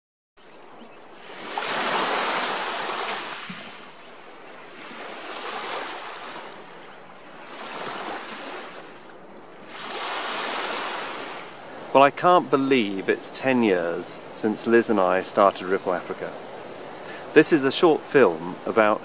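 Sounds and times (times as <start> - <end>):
small waves washing onto sand: 1.0 - 19.0.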